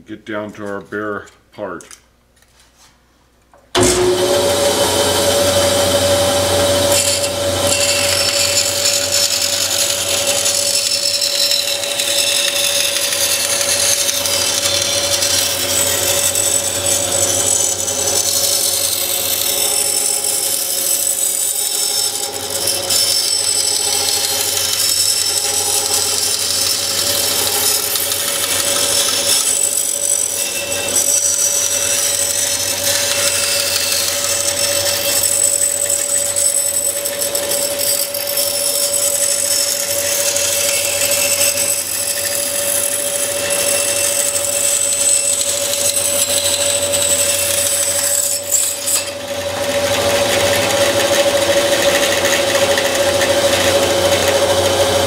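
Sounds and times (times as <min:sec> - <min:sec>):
blade cutting with high hiss: 0:03.8 - 0:49.2
bandsaw humming: 0:03.8 - 0:55.0.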